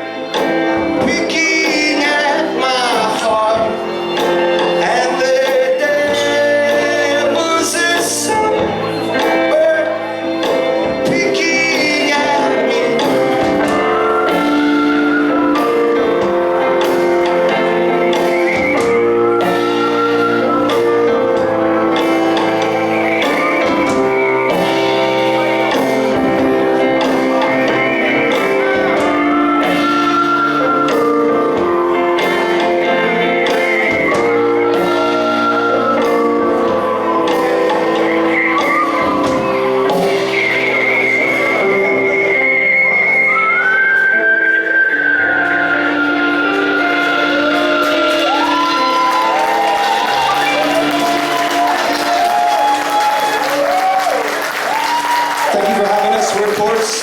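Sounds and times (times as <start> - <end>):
guitar melody: 0.0 - 54.2
live band playing: 0.0 - 57.0.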